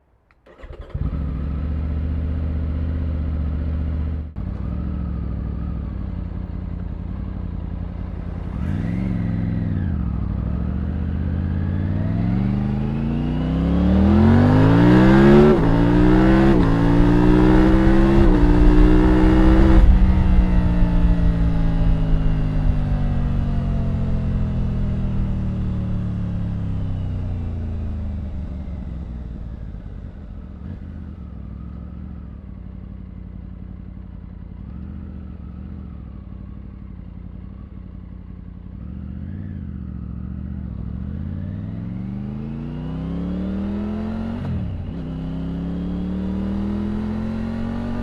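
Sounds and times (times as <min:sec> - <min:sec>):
motorcycle engine idling and accelerating: 0:00.0 - 0:48.0.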